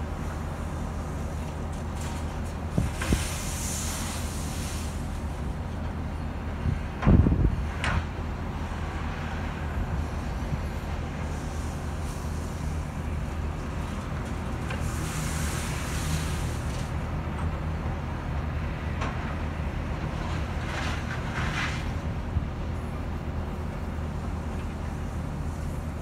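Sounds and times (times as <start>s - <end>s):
diesel machinery drone: 0.0s - 26.0s.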